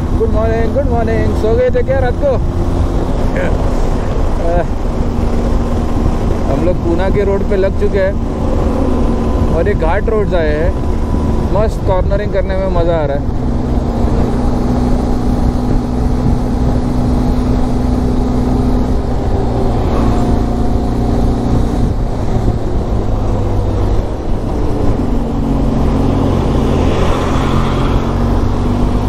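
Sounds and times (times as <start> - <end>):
wind rush: 0.0 - 29.0.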